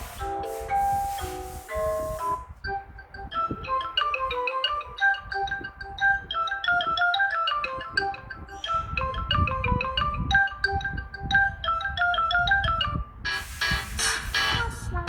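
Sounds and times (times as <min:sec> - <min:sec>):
mallet-like ringtone melody: 0:00.0 - 0:14.6
bright ringtone: 0:00.0 - 0:14.8
ringtone beat: 0:00.0 - 0:15.0.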